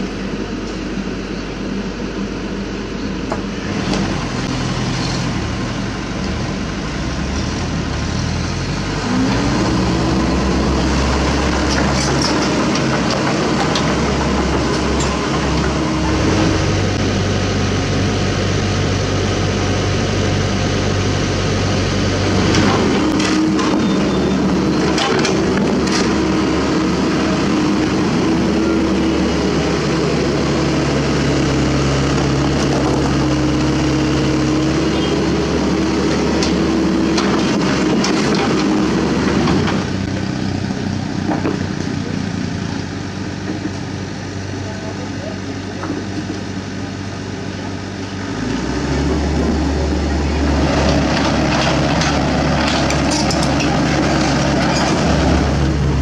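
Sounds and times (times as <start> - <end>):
excavator diesel engine revving: 0.0 - 56.0.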